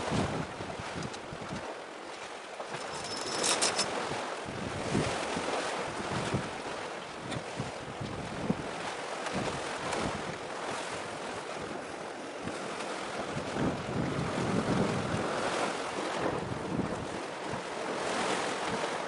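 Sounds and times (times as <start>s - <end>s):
wind on microphone: 0.0s - 1.7s, 2.7s - 19.0s
sea waves: 0.0s - 19.0s.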